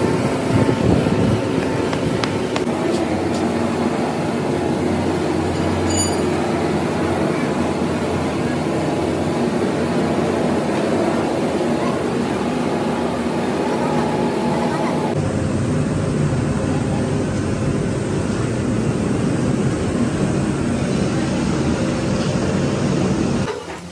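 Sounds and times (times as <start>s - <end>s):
machinery humming: 0.0s - 23.5s.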